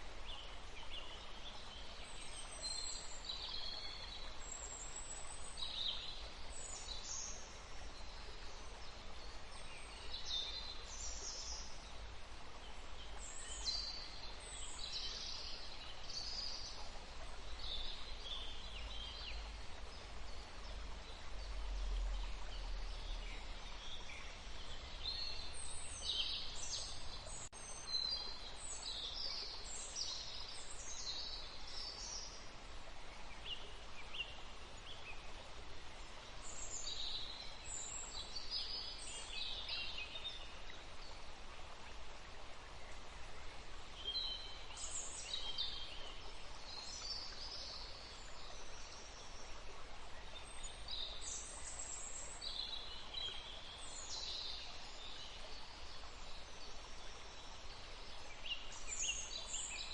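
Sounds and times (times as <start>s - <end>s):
forest birds chirping: 0.0s - 59.9s
outdoor background hiss: 0.0s - 59.9s.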